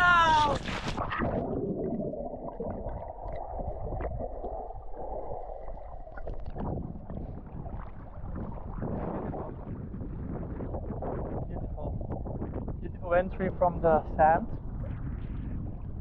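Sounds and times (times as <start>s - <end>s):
muffled underwater churning: 0.0s - 16.0s.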